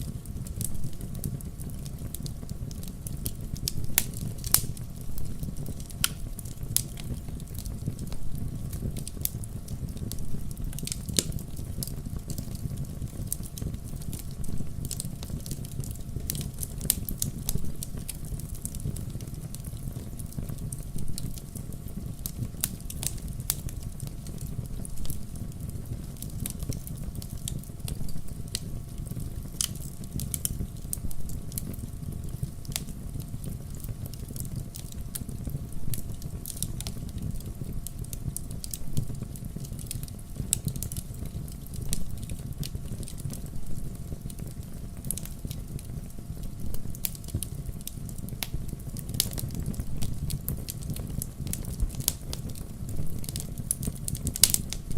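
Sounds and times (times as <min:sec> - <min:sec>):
fire crackling and popping: 0:00.0 - 0:54.9
low noise of flames: 0:00.0 - 0:54.9.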